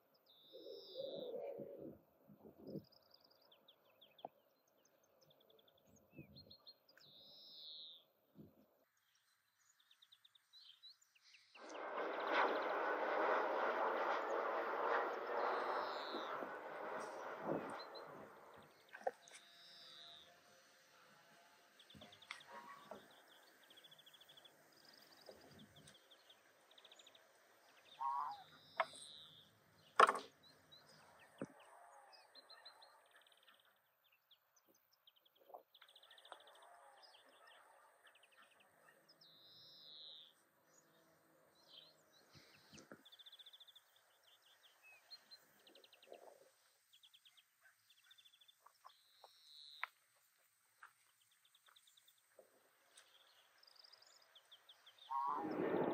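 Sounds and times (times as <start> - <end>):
small birds chirping and trilling: 0.0 - 12.8, 14.9 - 55.9.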